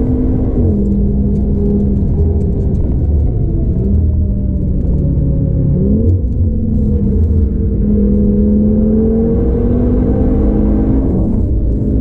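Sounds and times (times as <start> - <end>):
car engine revving: 0.0 - 12.0
road and tyre noise: 0.0 - 12.0.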